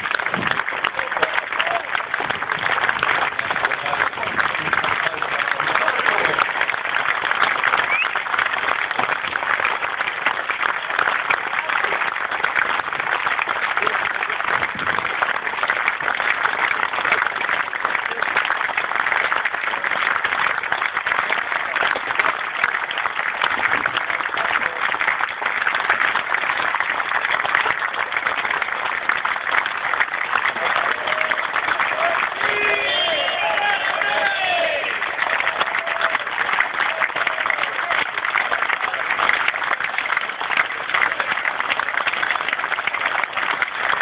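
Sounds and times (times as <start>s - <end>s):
crowd applauding: 0.0s - 44.0s.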